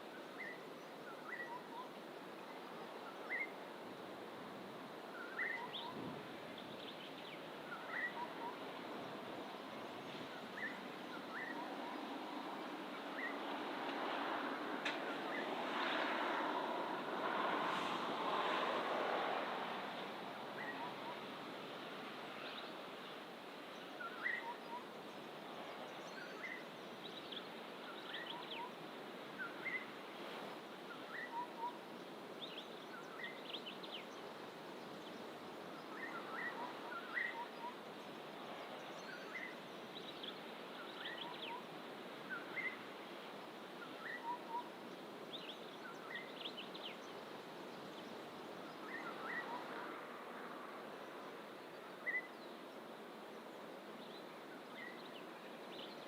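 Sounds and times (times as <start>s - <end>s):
distant ocean surf: 0.0s - 56.0s.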